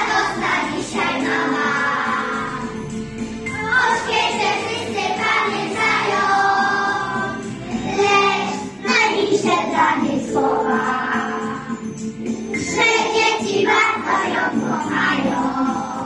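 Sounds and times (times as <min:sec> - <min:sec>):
children singing together: 0:00.0 - 0:02.8, 0:03.5 - 0:11.8, 0:12.5 - 0:16.0.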